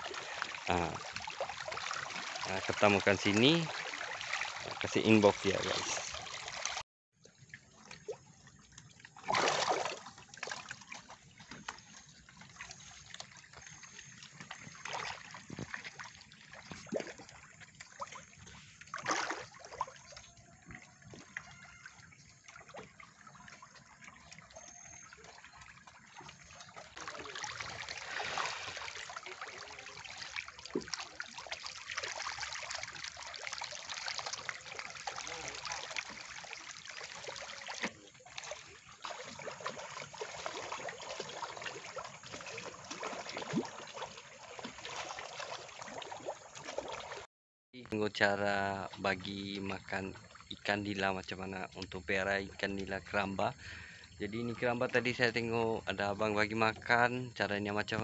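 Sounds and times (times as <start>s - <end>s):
fish splashing at water surface: 0.0s - 11.8s, 12.5s - 47.3s.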